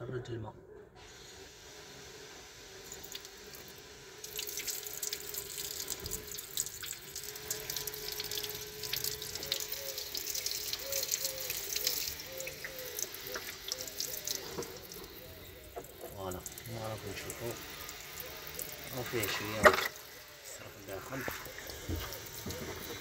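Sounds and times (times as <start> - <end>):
water gushing onto floor: 2.9 - 23.0.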